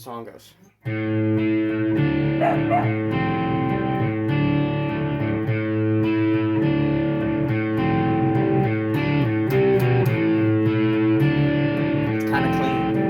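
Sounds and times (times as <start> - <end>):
electric guitar chords with chorus: 0.9 - 13.0.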